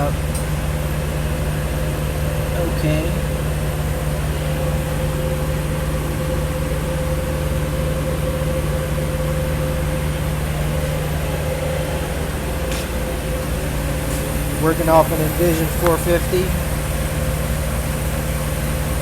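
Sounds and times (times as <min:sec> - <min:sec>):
machinery hum: 0:00.0 - 0:19.0
steady mid-pitched tone: 0:02.5 - 0:19.0.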